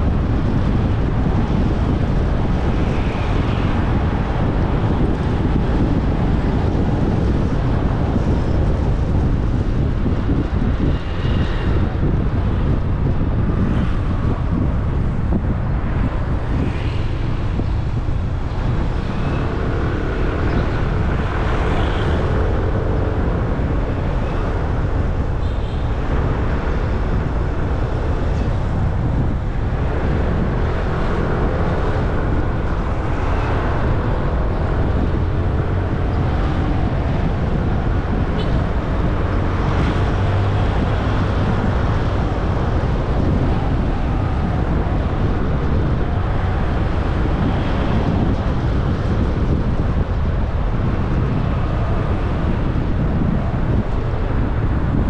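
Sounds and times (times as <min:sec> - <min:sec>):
wind rushing: 0:00.0 - 0:55.0.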